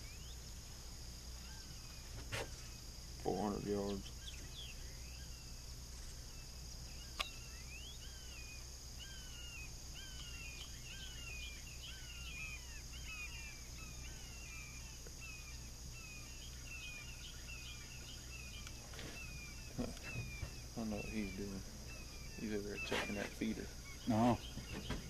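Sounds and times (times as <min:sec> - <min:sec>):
birds chirping: 0:00.0 - 0:25.0
high-pitched insect drone: 0:00.0 - 0:25.0.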